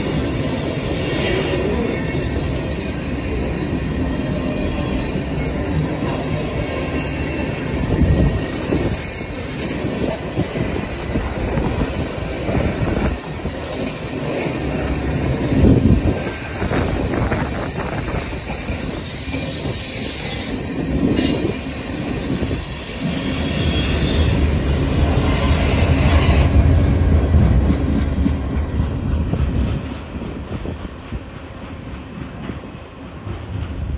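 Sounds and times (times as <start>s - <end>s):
high wheel squeal: 0.0s - 29.1s
train wheels rumbling on rails: 0.0s - 33.9s.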